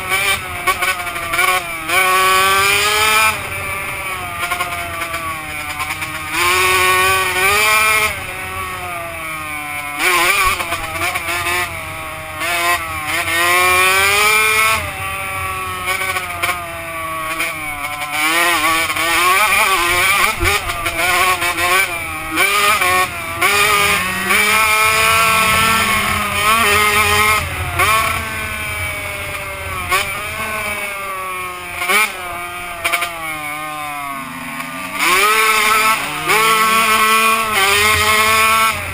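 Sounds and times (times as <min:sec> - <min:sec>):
two-stroke motocross engine revving: 0:00.0 - 0:38.9.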